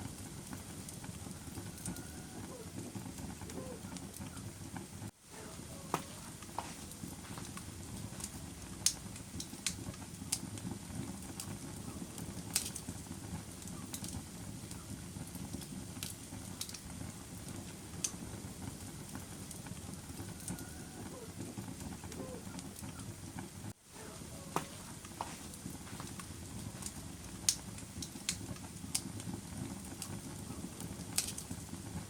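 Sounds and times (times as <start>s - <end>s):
fire crackling and popping: 0.0s - 32.0s
wood fire burning: 0.0s - 32.0s.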